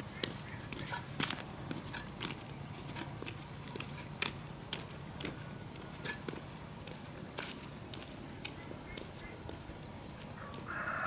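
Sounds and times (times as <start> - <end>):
sandal footsteps on concrete: 0.0 - 11.0.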